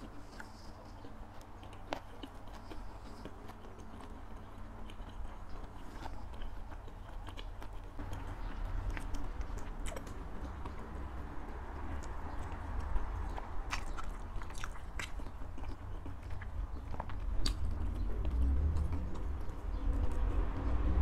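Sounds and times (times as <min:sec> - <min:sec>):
chewing with a full mouth: 0:00.0 - 0:21.0.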